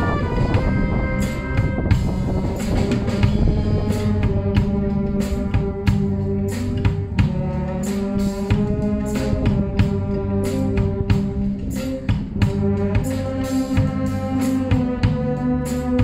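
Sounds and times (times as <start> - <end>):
brass sustained chords: 0.0 - 16.0
drum kit and cymbals beat: 0.0 - 16.0.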